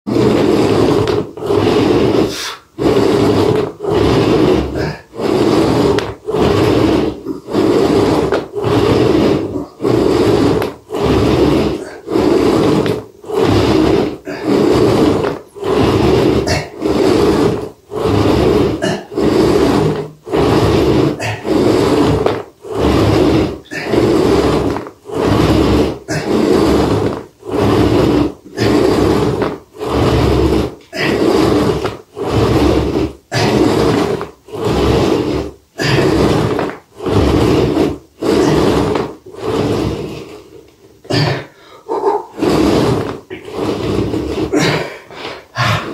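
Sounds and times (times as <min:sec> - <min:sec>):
ab wheel rolling on wooden floor: 0:00.1 - 0:45.9.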